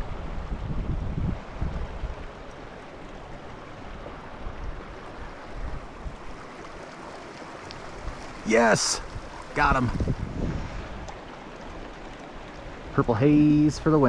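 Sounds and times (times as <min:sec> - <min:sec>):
wind rumble on microphone: 0:00.0 - 0:06.9, 0:07.7 - 0:14.0
mountain creek rushing: 0:00.0 - 0:14.0.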